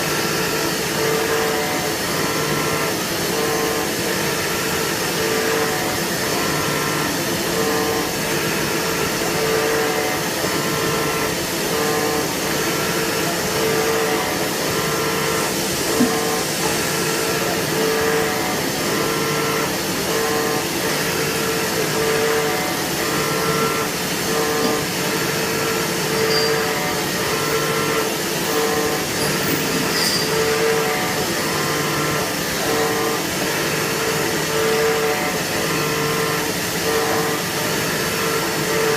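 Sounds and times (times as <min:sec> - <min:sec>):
milling machine whirring: 0:00.0 - 0:38.9.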